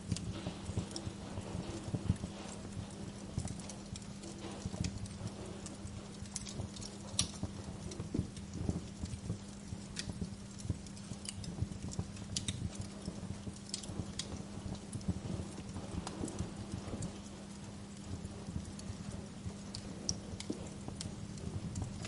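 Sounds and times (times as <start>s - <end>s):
steady low hum: 0.0s - 22.0s
wood fire crackling and popping: 0.0s - 22.0s.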